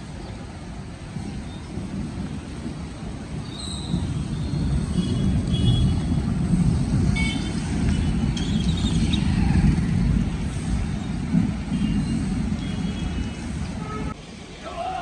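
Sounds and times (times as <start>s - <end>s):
motorcycles passing on wet road: 1.8s - 14.2s.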